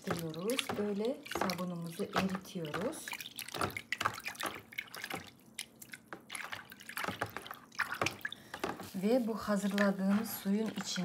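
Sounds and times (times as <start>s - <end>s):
hand stirring water splashing: 0.0s - 11.0s.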